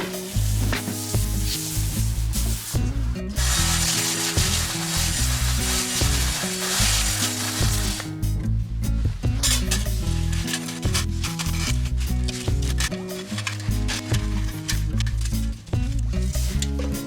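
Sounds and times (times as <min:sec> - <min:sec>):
wood fire crackling: 0:00.0 - 0:08.3, 0:09.0 - 0:16.6
background music with low notes: 0:00.0 - 0:17.0.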